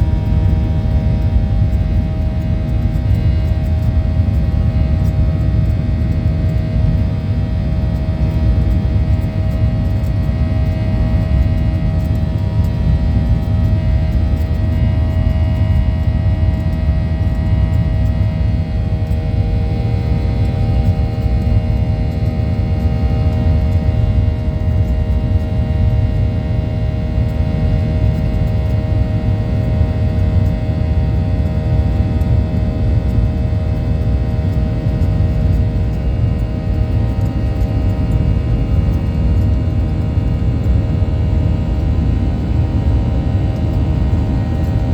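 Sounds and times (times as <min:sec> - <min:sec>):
airplane cabin rumble: 0:00.0 - 0:44.9
turbofan engine whine: 0:00.0 - 0:44.9.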